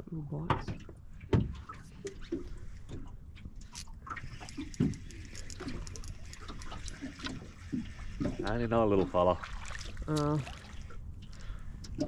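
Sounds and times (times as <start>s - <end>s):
waves lapping against boat hull: 0.6s - 12.0s.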